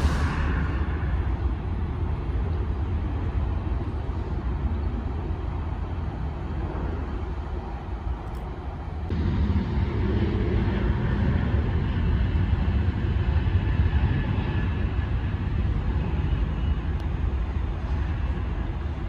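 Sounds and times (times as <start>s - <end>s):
jet engines rumbling with whine: 0.0s - 19.0s.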